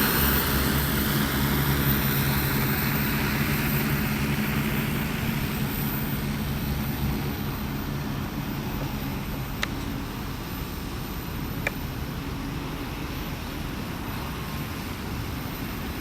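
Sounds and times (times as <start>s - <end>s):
drone propeller hum: 0.0s - 16.0s.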